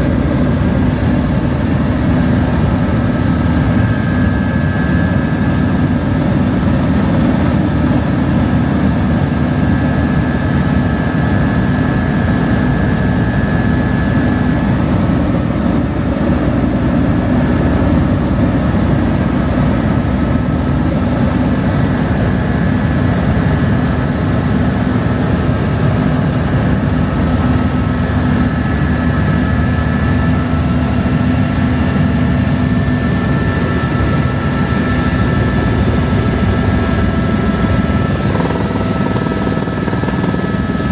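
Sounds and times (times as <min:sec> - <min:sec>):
helicopter rotor and engine noise: 0:00.0 - 0:40.9.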